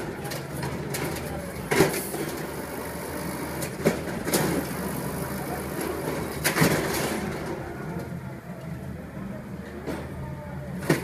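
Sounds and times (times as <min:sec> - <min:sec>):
garbage truck diesel engine: 0:00.0 - 0:11.0.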